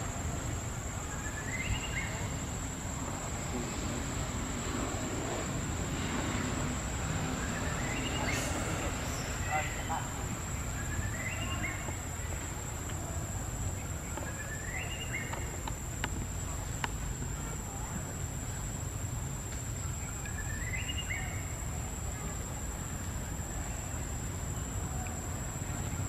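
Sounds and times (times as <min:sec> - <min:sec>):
insect high-pitched drone: 0:00.0 - 0:26.0.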